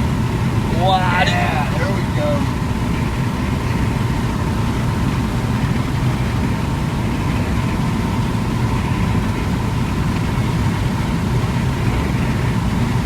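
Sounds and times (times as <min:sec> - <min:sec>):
faint steady whine: 0:00.0 - 0:13.0
wind buffeting and road noise: 0:00.0 - 0:13.0.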